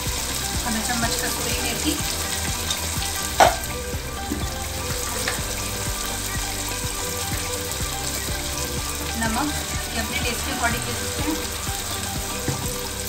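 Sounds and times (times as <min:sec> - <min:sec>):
oil and masala sizzling in a pan: 0:00.0 - 0:13.0.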